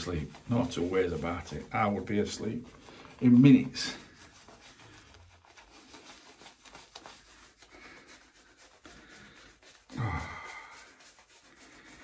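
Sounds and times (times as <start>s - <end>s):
shaving brush rubbing scalp: 0.0s - 12.0s.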